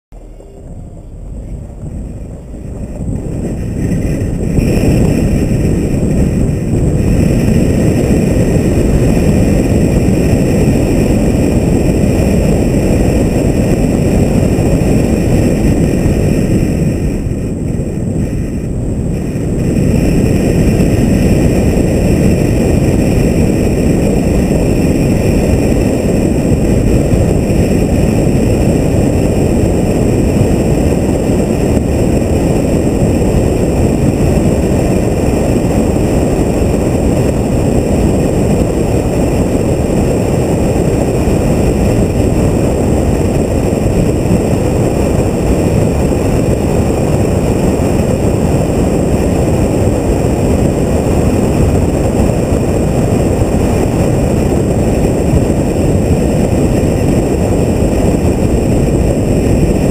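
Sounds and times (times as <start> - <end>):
road and wind rush: 0.0 - 59.9.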